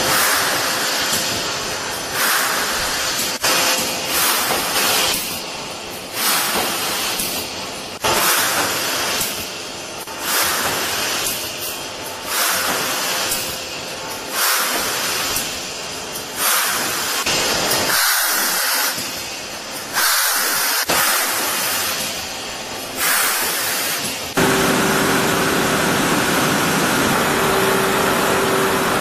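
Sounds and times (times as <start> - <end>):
factory machinery hissing rhythmically: 0.0 - 29.0.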